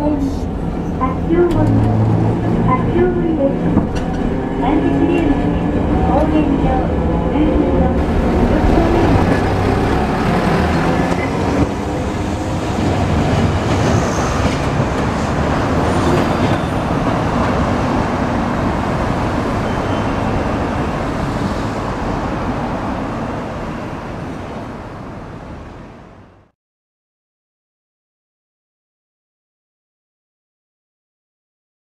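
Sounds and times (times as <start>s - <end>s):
streetcar wheels and motors rumbling: 0.0s - 26.4s
road traffic: 0.0s - 26.5s.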